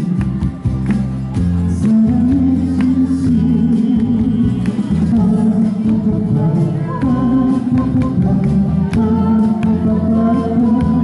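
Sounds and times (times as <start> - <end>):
acoustic guitar: 0.0 - 11.0
keyboard: 0.0 - 11.0
man singing a pop ballad: 1.6 - 11.0.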